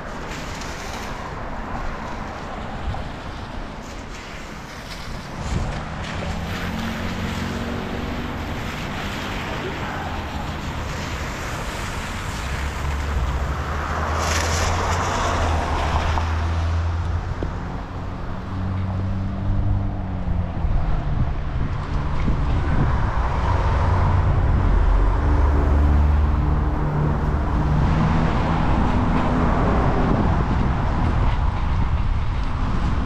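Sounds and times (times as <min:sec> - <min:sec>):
passing traffic engine hum: 0:00.0 - 0:33.0
wind rushing over microphone: 0:00.0 - 0:33.0.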